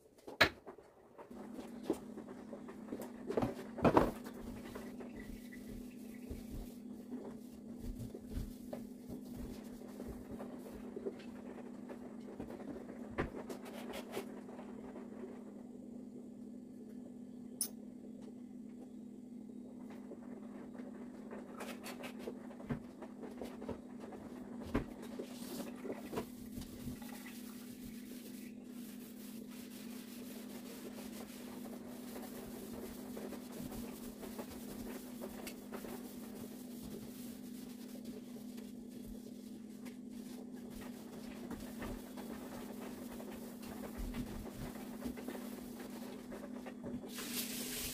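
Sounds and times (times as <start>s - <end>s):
steady low hum: 0.1s - 47.9s
handling rubbing and scratching: 1.2s - 15.5s, 20.1s - 47.9s.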